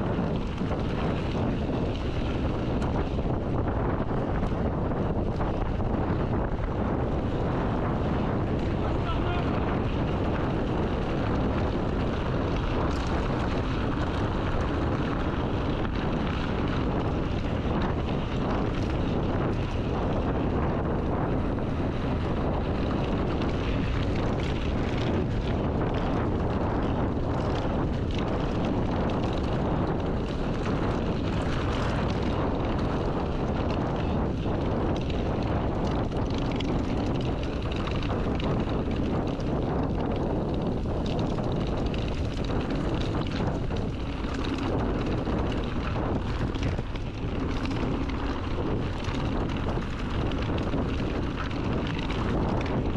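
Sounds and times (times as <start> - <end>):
bike rattling: 0.0 - 52.9
tyre rumble: 0.0 - 52.9
wind buffeting microphone: 0.0 - 52.9.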